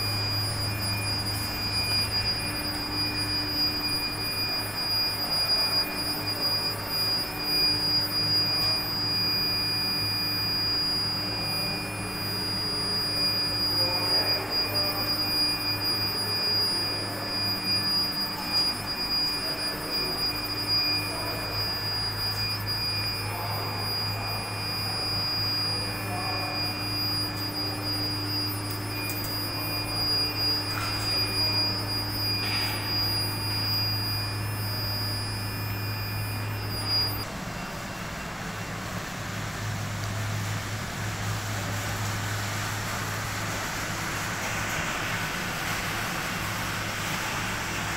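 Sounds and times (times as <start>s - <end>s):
high-pitched furnace whine: 0.0s - 47.9s.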